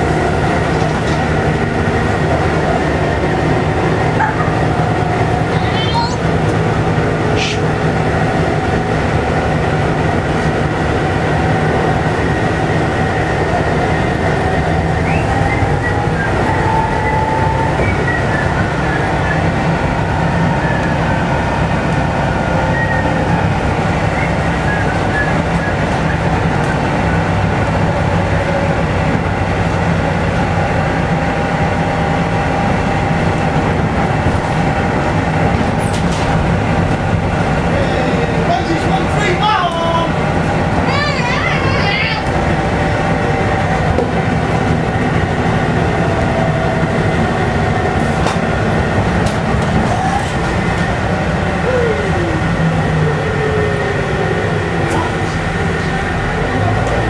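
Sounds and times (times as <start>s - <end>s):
bus diesel engine running: 0.0s - 57.0s
high drivetrain whine: 0.0s - 57.0s
road and body rumble: 0.0s - 57.0s.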